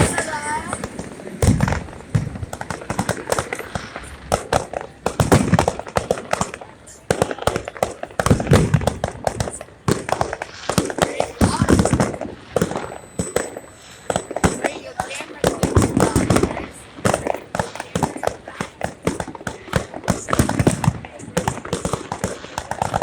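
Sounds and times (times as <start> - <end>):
deep fireworks booms: 0.0 - 23.0
fireworks crackling: 0.0 - 23.0.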